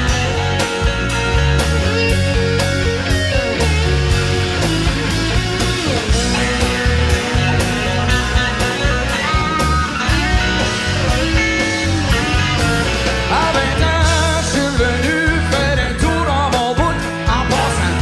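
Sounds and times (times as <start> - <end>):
bass and drums: 0.0 - 18.0
electric guitar lead: 0.0 - 18.0.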